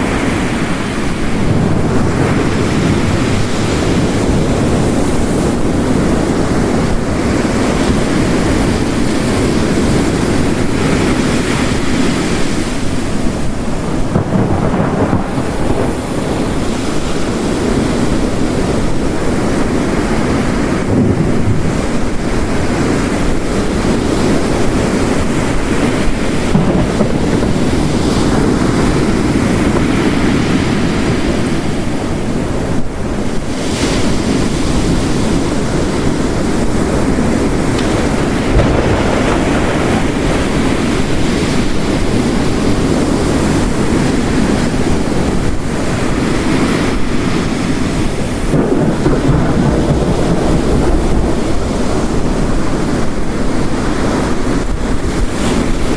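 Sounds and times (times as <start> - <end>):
distant thunder rumbles: 0.0 - 32.9, 34.3 - 46.2, 46.9 - 55.4
heavy rain: 0.0 - 55.9
waves breaking on rocky shore: 0.0 - 55.9.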